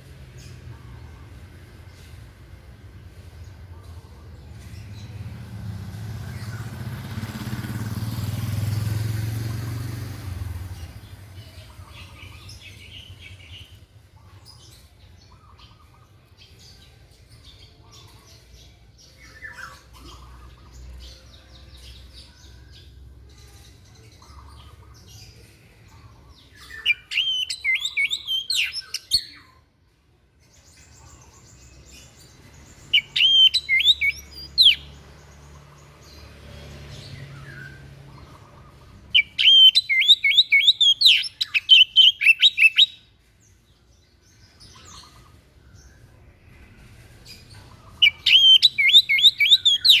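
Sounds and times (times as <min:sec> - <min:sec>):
songbird singing: 0:00.0 - 0:50.0.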